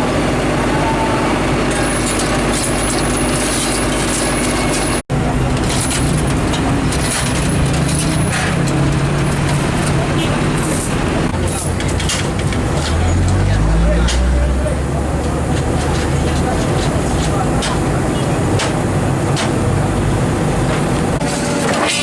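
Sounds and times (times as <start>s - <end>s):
diesel truck engines running: 0.0s - 22.0s.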